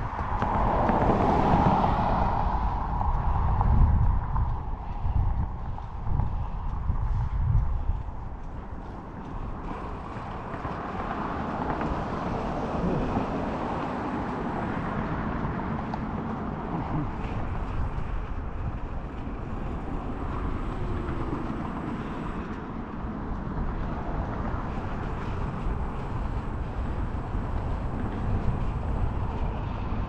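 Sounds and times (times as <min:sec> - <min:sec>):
road traffic: 0:00.0 - 0:30.0
wind on microphone: 0:00.0 - 0:30.0.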